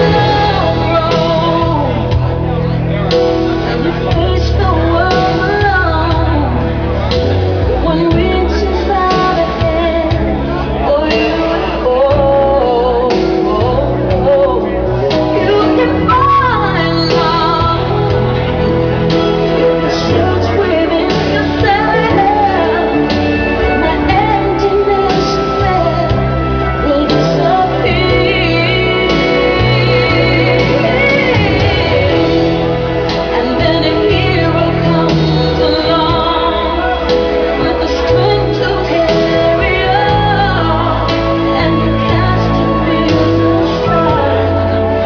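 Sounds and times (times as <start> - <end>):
pop music with singing: 0.0 - 45.0.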